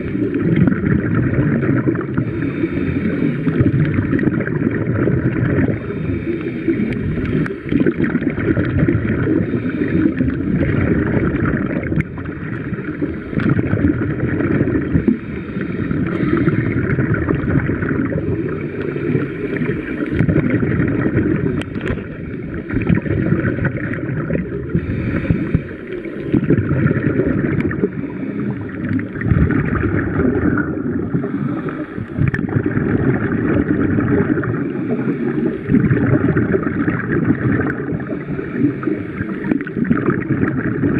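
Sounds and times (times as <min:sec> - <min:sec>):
underwater rumble of water: 0:00.0 - 0:40.9.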